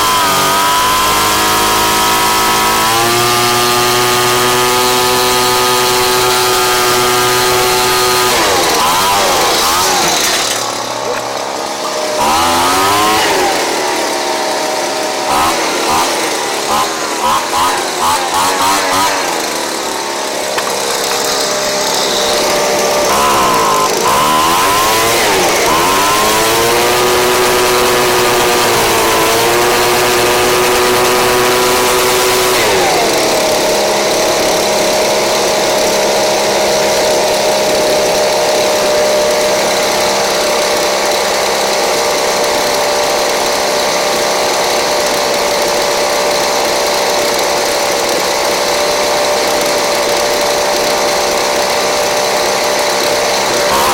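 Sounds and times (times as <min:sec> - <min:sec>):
leaf blower engine running: 0:00.0 - 0:53.9.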